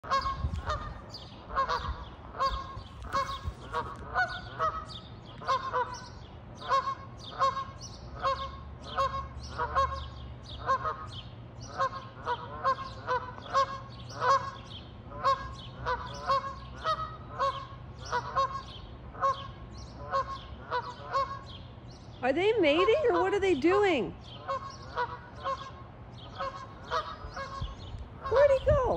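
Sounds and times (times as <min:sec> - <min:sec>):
goose honking: 0:00.0 - 0:21.6, 0:22.5 - 0:28.9.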